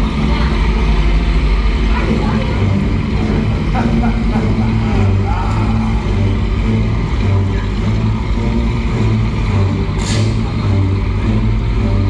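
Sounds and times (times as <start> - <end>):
propeller plane engine humming: 0.0 - 12.0.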